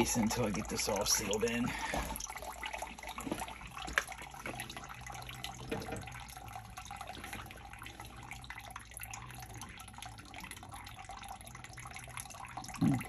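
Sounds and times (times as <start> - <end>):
water trickling into a pit: 0.0 - 13.0.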